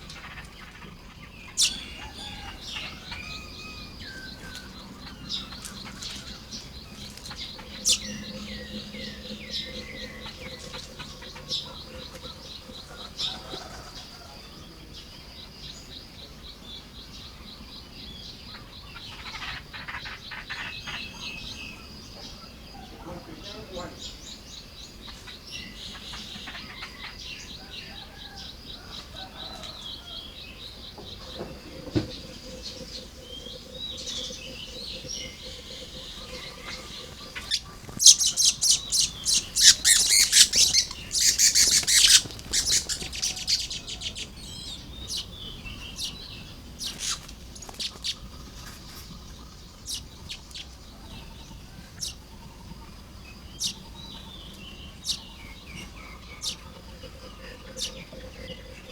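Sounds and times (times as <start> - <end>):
birds chattering: 0.0 - 58.9.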